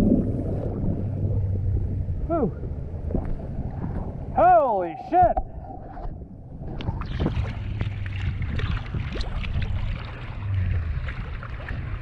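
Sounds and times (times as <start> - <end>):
low steady hum: 0.0 - 12.0
water splashing and sloshing: 0.0 - 12.0.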